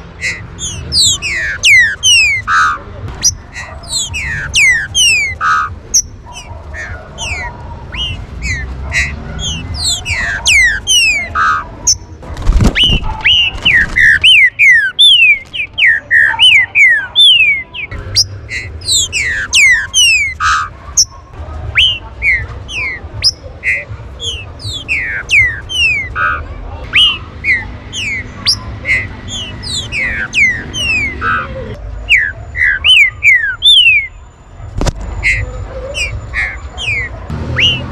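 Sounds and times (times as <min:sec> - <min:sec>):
birds whistling: 0:00.0 - 0:37.9.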